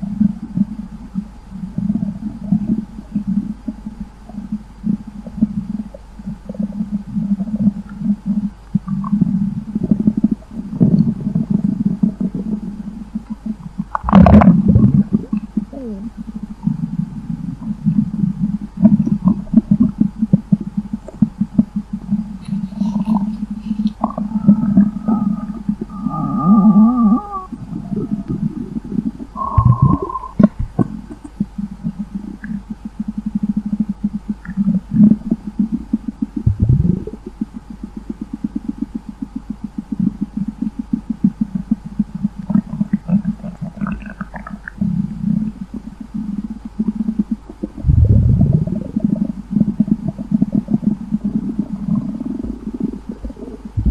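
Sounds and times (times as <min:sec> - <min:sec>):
stomach rumbling and gurgling: 0:00.0 - 0:53.9.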